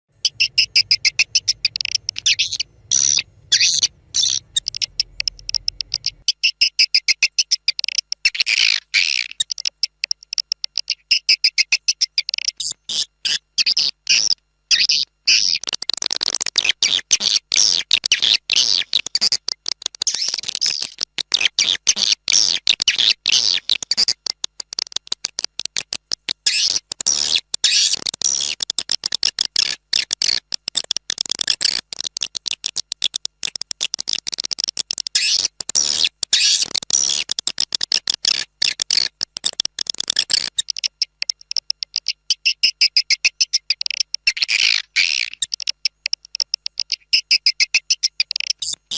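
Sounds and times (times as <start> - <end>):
swiftlets chirping rapidly: 0.2 - 46.0.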